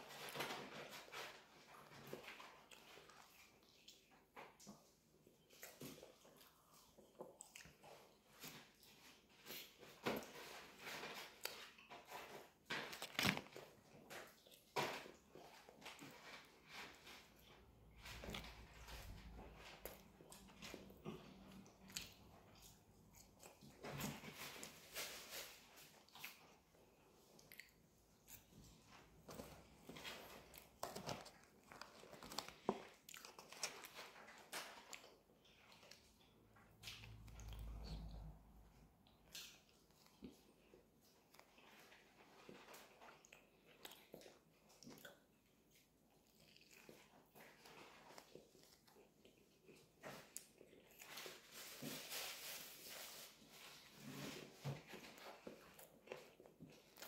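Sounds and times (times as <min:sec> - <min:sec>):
person chewing: 0:02.2 - 0:10.3, 0:11.3 - 0:51.5, 0:53.9 - 0:57.0.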